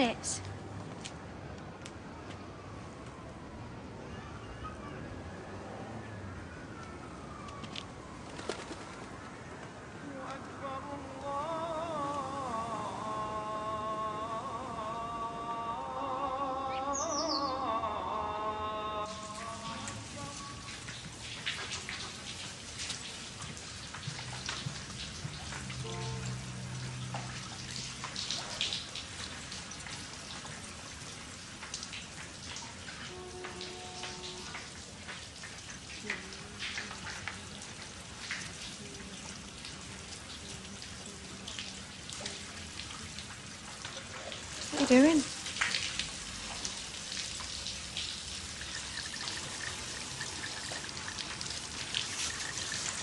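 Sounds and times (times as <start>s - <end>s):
rain patter: 0.0s - 53.0s
running water trickling: 6.7s - 53.0s.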